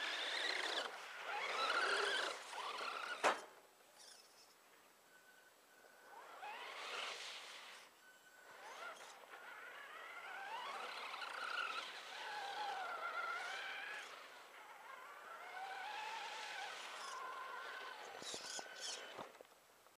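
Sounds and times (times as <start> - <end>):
toy truck motor whining: 0.0 - 19.4.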